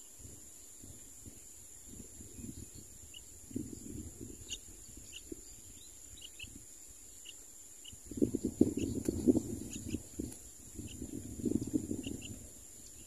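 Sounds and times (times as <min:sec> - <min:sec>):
faint bird chirps: 0:00.0 - 0:13.0
low wind rumble on microphone: 0:00.0 - 0:13.0.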